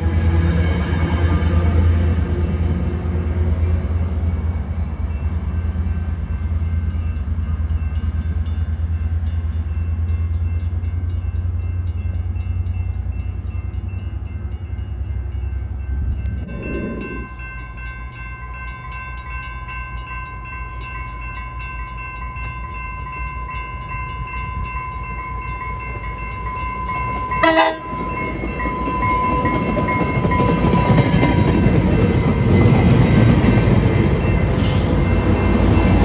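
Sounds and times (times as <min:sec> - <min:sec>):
crossing warning bell ringing: 0:00.0 - 0:36.0
train diesel rumble: 0:00.0 - 0:36.0.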